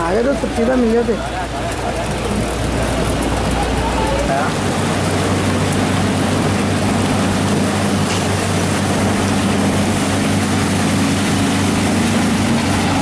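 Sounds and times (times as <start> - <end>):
heavy rain hiss: 0.0 - 13.0
truck engine humming: 0.0 - 13.0.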